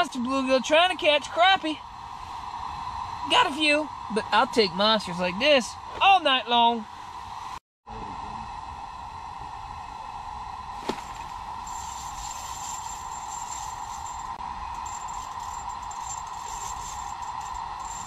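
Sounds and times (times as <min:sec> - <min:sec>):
faint high whine: 0:00.0 - 0:18.0
heater hissing rush: 0:00.0 - 0:18.0.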